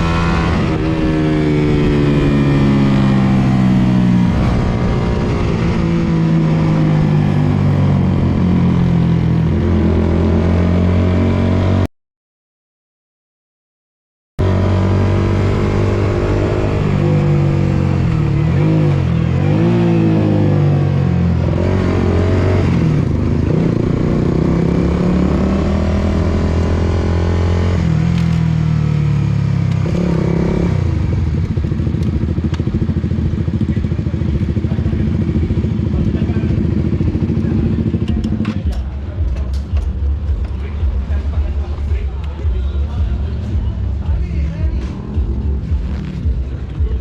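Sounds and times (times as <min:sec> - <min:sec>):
motorcycle engine revving: 0:00.0 - 0:11.9, 0:14.4 - 0:47.0.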